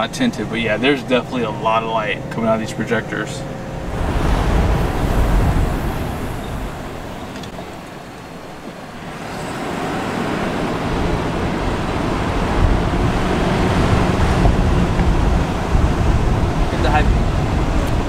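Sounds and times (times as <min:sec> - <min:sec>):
truck driving slowly: 0:00.0 - 0:18.0.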